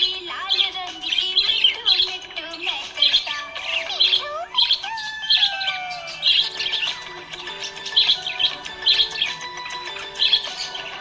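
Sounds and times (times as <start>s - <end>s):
background music: 0.0s - 11.0s
budgerigars chirping: 0.0s - 11.0s.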